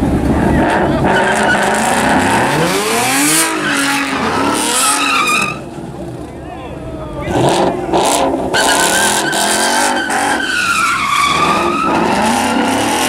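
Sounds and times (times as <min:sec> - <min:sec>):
tires screeching on pavement: 0:00.0 - 0:06.4, 0:07.2 - 0:13.0
car engine revving: 0:00.0 - 0:13.0.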